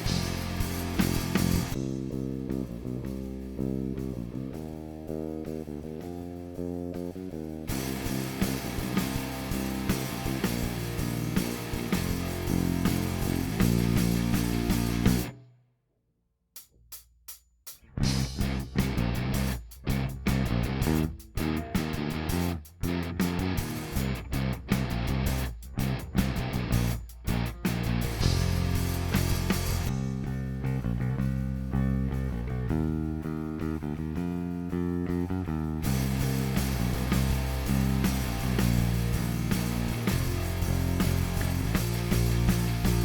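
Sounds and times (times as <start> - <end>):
electric bass playing: 0.0 - 15.4, 18.0 - 43.0.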